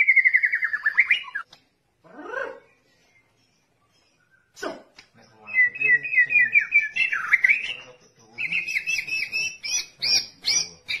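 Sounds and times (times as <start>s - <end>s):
bird singing rapid notes: 0.0s - 1.5s, 2.4s - 11.0s.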